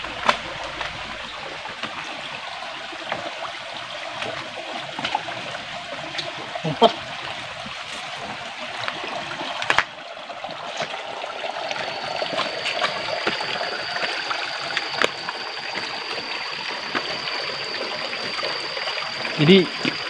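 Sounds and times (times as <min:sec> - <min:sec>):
stream trickling over rocks: 0:00.0 - 0:20.0.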